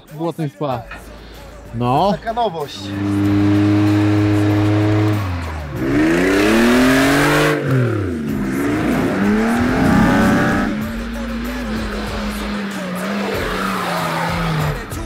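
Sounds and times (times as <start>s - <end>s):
buggy engine revving: 0.9s - 15.0s.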